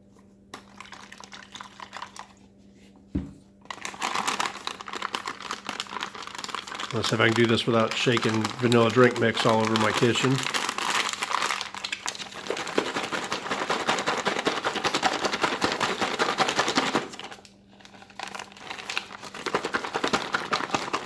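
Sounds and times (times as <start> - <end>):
drink pouch shaken: 3.7 - 21.0.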